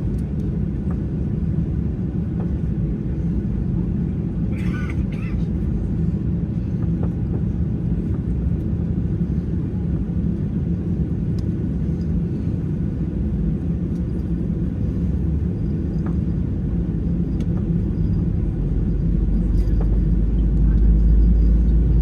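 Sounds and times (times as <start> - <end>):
airplane cabin rumble and hum: 0.0 - 22.0.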